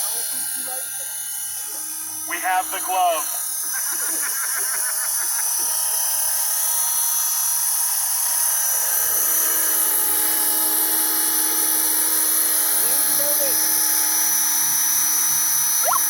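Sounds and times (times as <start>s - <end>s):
model helicopter motor whine: 0.0s - 2.6s, 3.3s - 16.0s.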